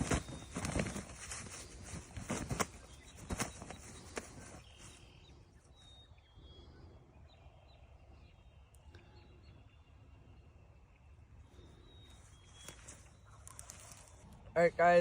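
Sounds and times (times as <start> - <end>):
faint low wind rumble: 0.0 - 15.0.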